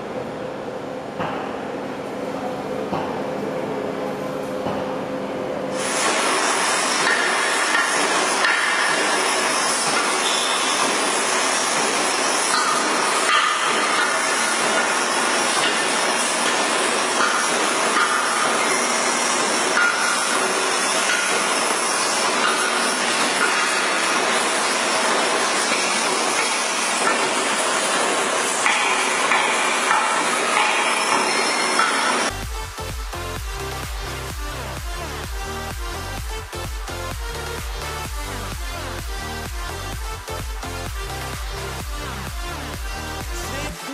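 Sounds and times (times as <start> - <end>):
lathe machining noise: 5.7 - 43.9.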